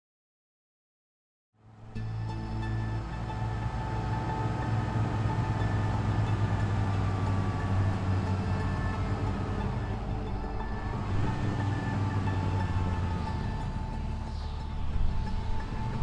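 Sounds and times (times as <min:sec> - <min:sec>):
low steady drone: 0:01.6 - 0:16.0
sustained tones: 0:02.0 - 0:16.0.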